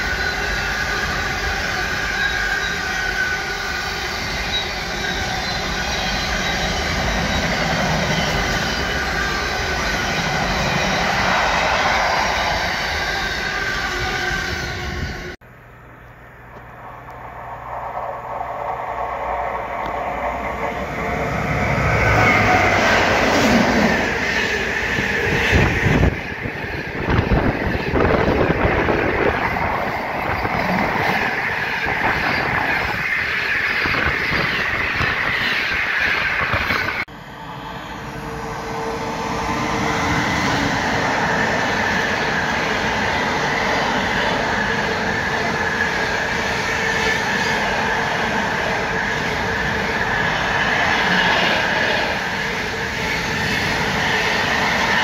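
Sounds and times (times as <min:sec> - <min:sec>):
locomotive passing: 0:00.0 - 0:55.0.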